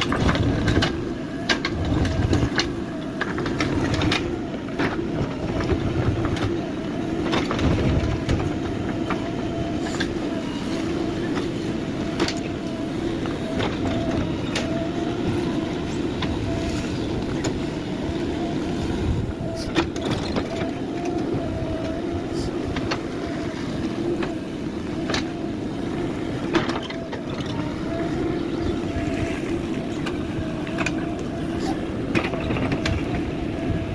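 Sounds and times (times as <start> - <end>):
backhoe diesel engine running: 0.0 - 33.9.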